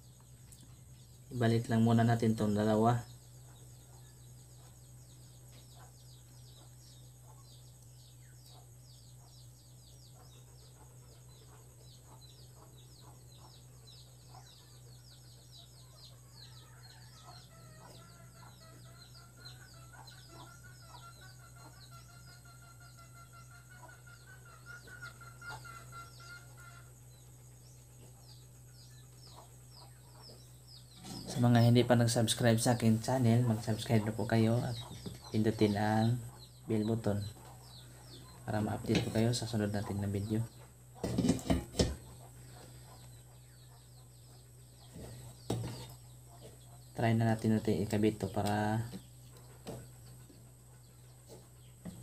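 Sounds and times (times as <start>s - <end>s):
birds chirping: 0.0s - 52.0s
steady low hum: 0.0s - 52.0s.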